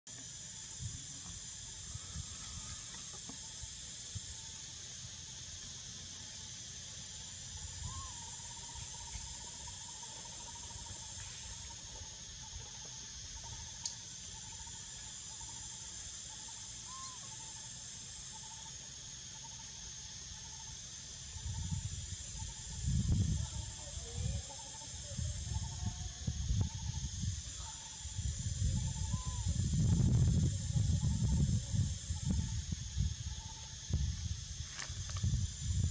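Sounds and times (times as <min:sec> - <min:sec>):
faint thin chirping tone: 0:00.1 - 0:35.9
high-pitched insect chorus: 0:00.1 - 0:35.9.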